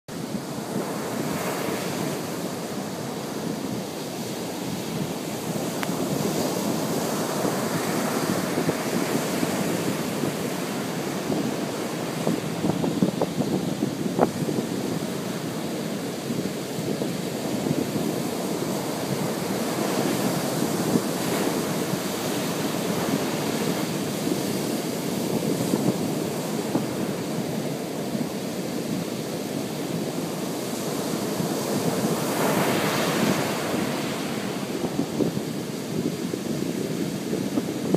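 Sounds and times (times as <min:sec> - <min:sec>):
surf washing onto beach: 0:00.1 - 0:37.9
wind buffeting microphone: 0:00.2 - 0:37.9.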